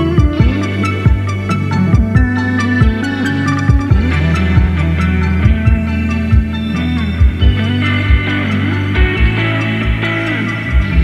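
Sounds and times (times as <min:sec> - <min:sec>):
sustained melodic tones: 0:00.0 - 0:11.0
low drum beat: 0:00.1 - 0:11.0.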